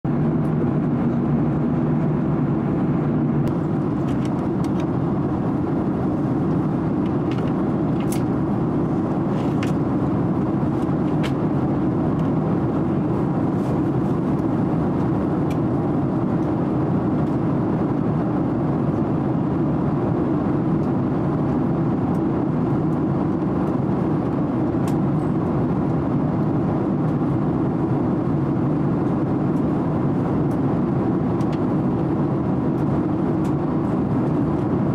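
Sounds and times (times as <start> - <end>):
airliner cabin jet noise: 0.0 - 34.9.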